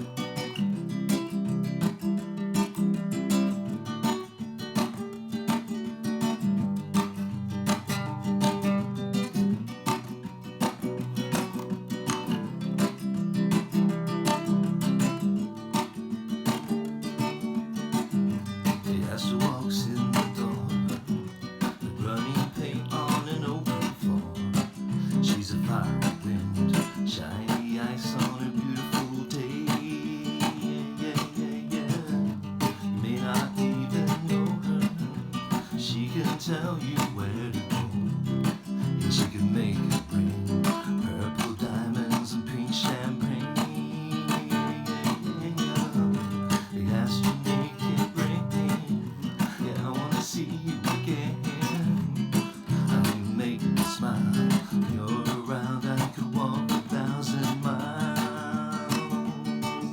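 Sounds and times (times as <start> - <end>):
song with strummed acoustic guitar: 0.0 - 59.9.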